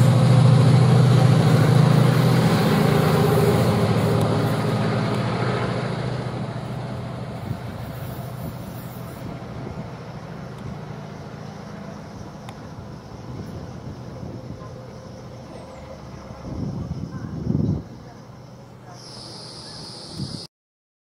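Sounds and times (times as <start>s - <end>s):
diesel locomotive engine hum: 0.0s - 20.5s
train noise: 0.0s - 20.5s.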